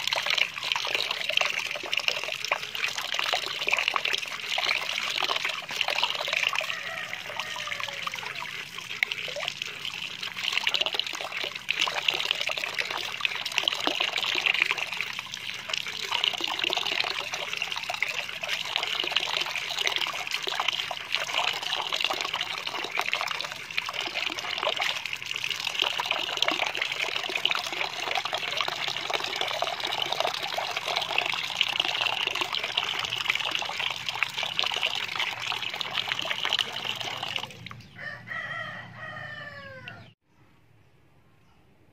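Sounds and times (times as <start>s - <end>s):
water pouring into basin: 0.0s - 37.8s.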